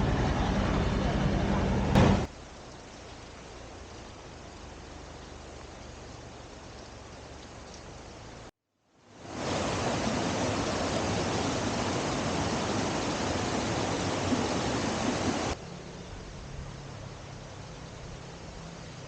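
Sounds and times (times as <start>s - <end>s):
mountain stream rushing: 0.0s - 19.0s
quiet outdoor hiss: 2.0s - 19.0s.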